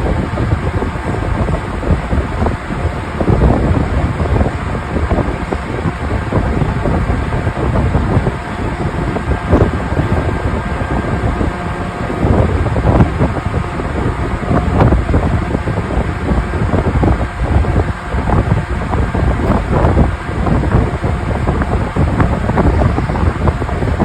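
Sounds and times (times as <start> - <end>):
ship's low rumble: 0.0 - 24.0
wind gusting on microphone: 0.0 - 24.0.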